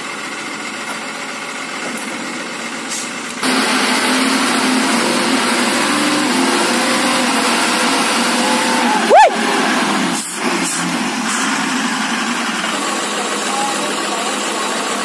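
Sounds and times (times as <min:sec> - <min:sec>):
truck diesel engine: 0:00.0 - 0:15.0.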